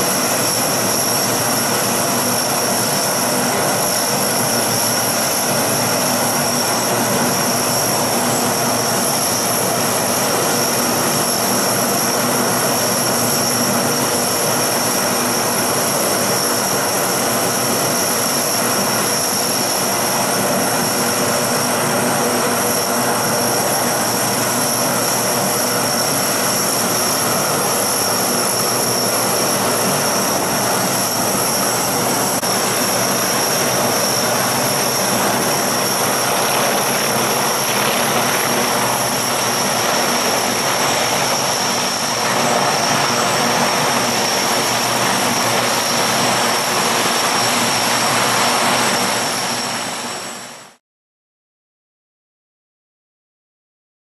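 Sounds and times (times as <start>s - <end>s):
aircraft engines droning: 0.0s - 50.8s
high-pitched whine: 0.0s - 50.8s.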